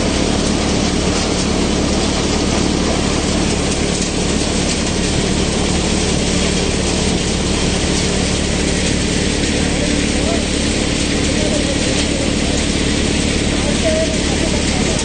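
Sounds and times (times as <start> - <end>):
thresher machine drone: 0.0 - 15.0.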